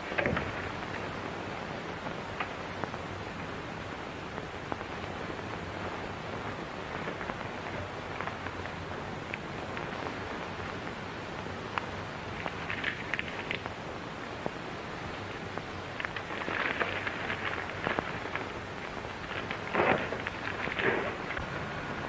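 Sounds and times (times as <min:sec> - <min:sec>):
faint clicks and crackles: 0:00.0 - 0:22.0
steady hiss: 0:00.0 - 0:22.0.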